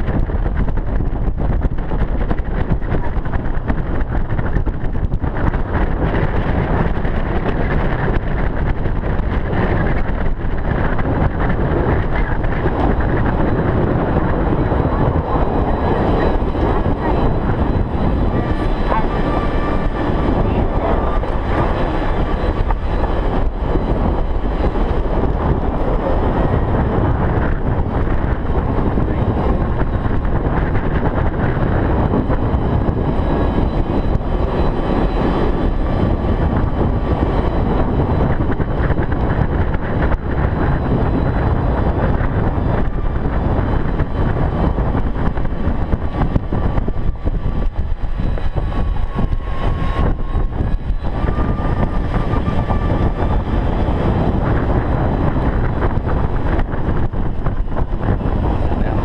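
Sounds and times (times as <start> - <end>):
faint steady whine: 0.0 - 59.0
golf cart motor and tyres: 0.0 - 59.0
wind buffeting microphone: 0.0 - 59.0.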